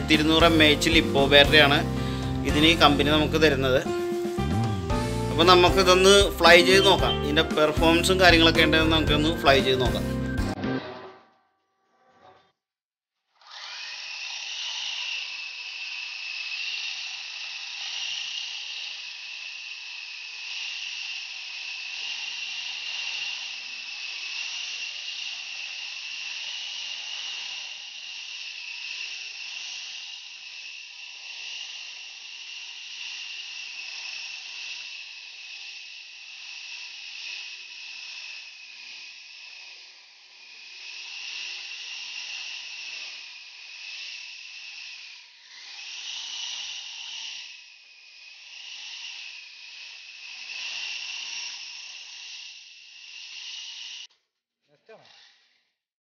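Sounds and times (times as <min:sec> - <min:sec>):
toy helicopter rotors whining: 0:00.0 - 0:10.4, 0:13.3 - 0:55.8.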